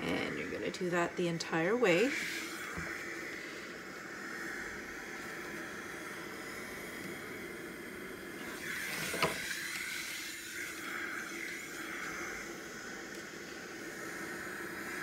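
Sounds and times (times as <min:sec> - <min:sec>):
steam iron hissing: 0:00.0 - 0:15.0.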